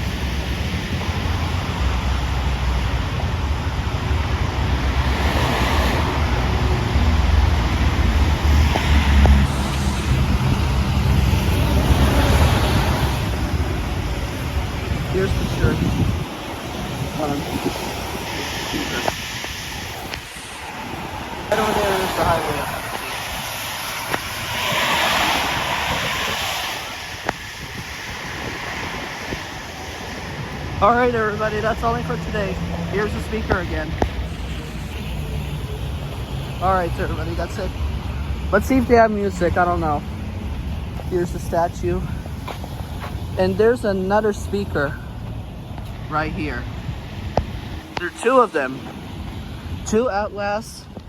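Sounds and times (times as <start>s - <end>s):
wind rumble on microphone: 0.0s - 48.1s, 48.8s - 51.0s
road traffic passing: 0.0s - 51.0s.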